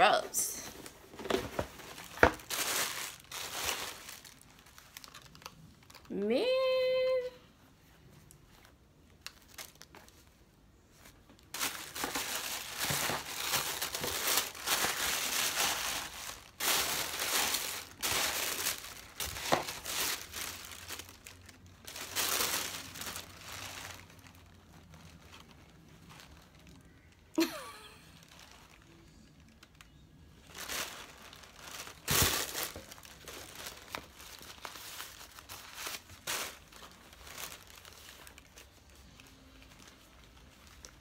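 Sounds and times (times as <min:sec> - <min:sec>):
stuffing paper crinkling: 0:00.6 - 0:06.1, 0:08.4 - 0:10.3, 0:11.0 - 0:27.0, 0:28.2 - 0:41.0.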